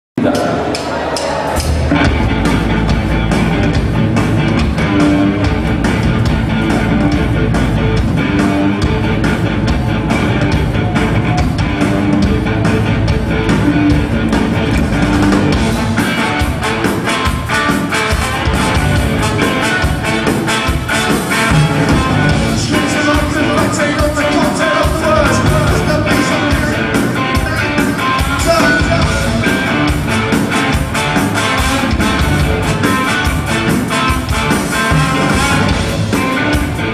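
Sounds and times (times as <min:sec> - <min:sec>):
ska-punk band playing live: 0:00.2 - 0:36.9.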